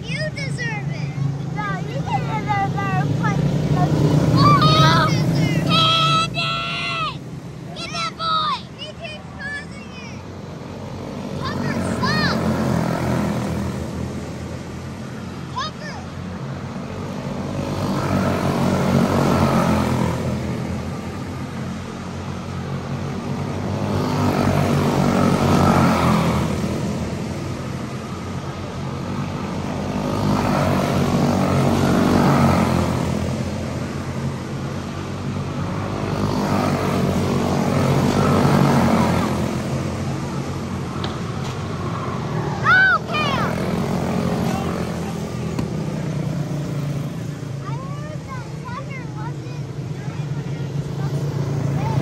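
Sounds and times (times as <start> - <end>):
race car engines buzzing: 0.0 - 52.0.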